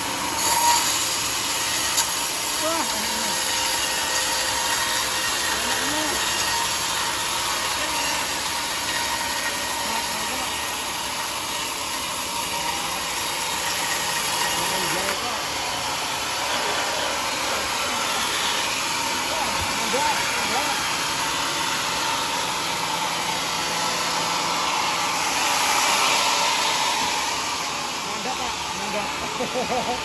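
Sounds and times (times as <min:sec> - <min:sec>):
sawmill running: 0:00.0 - 0:30.0.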